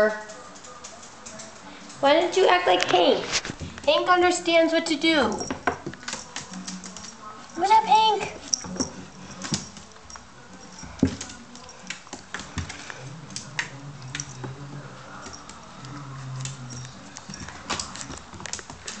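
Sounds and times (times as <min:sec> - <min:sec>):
puppy claws scrabbling on a bathtub: 0:00.0 - 0:19.0.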